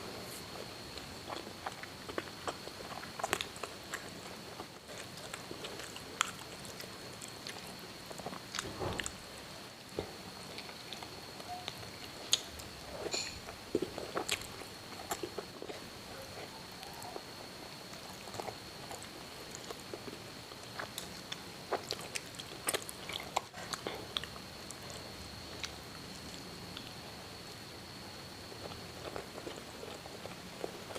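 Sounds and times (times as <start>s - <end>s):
faint high-pitched whine: 0.0s - 30.9s
person chewing food: 0.3s - 9.2s, 9.9s - 27.1s, 28.5s - 30.9s.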